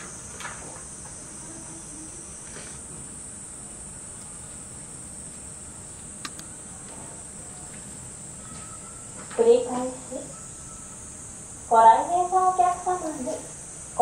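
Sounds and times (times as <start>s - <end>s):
high-pitched background hiss: 0.0s - 14.0s.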